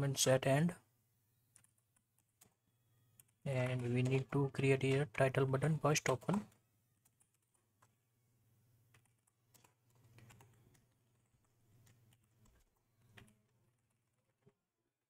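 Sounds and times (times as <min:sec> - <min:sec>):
keyboard typing: 0:01.5 - 0:08.0, 0:08.9 - 0:14.6.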